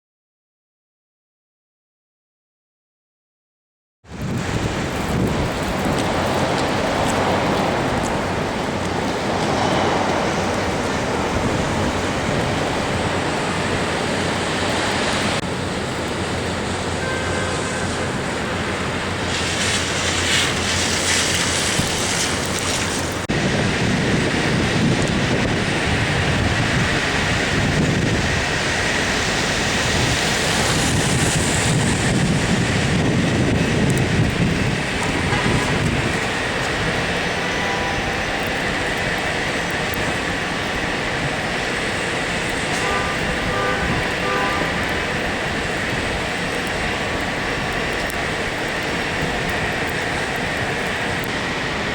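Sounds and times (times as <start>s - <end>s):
city street traffic: 4.0s - 51.9s
storm wind buffeting microphone: 4.0s - 51.9s.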